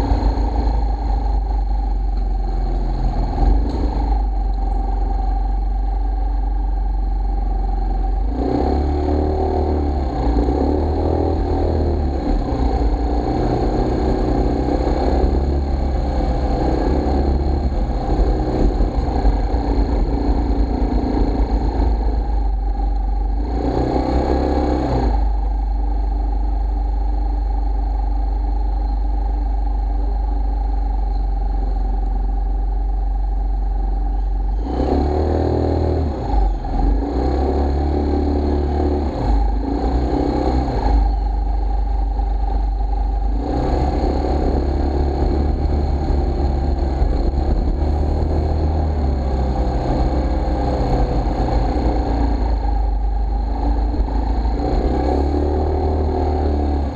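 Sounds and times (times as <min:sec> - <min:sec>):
road and wind rumble: 0:00.0 - 0:56.9
scooter motor running: 0:07.9 - 0:32.9, 0:34.1 - 0:56.9.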